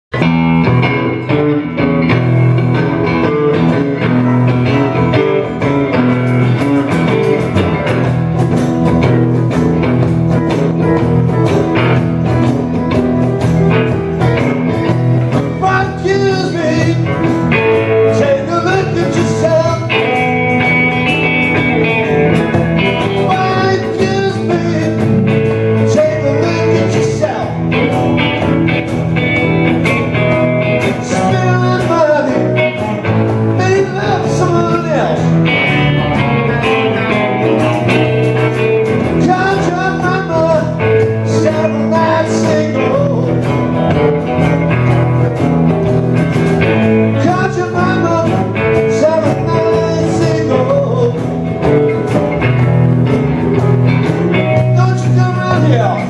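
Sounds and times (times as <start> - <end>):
live band playing guitars and keyboard: 0.1 - 56.0.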